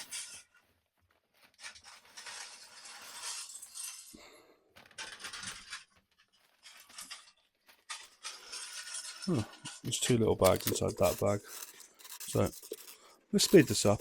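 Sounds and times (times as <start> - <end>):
small plastic pieces clinking: 0.0 - 0.7, 1.5 - 4.2, 4.8 - 14.0.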